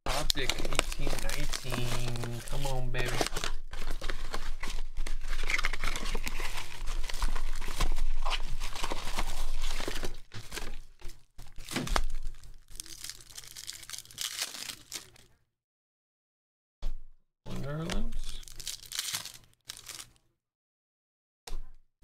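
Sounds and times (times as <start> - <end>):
plastic wrap crinkling and tearing: 0.1 - 15.3, 17.7 - 20.2.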